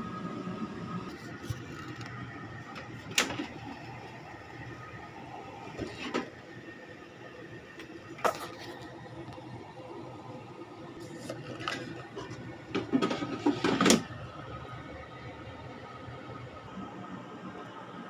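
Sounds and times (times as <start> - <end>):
mechanical hum with held tones: 0.0 - 18.0.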